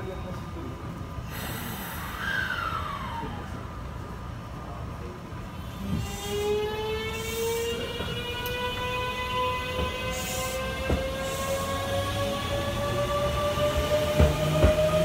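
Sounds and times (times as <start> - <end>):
train inverter whine: 0.0 - 15.0.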